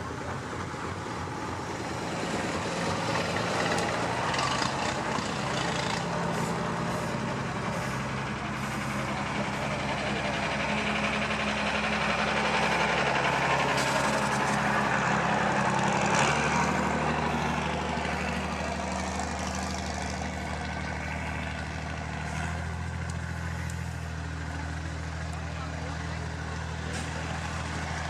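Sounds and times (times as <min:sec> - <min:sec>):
truck diesel engine: 0:00.0 - 0:28.0.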